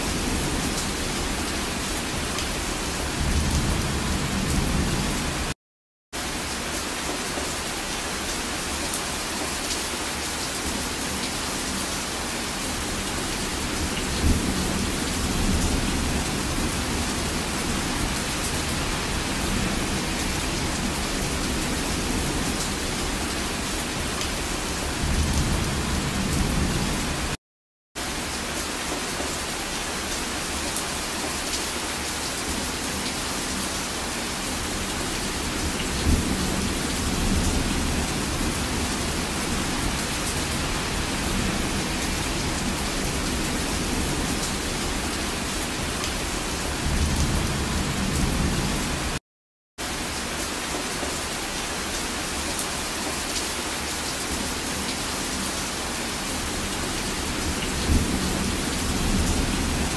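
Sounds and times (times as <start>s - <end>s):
heavy rain falling: 0.0s - 5.6s, 6.2s - 27.4s, 28.0s - 49.2s, 49.8s - 59.9s.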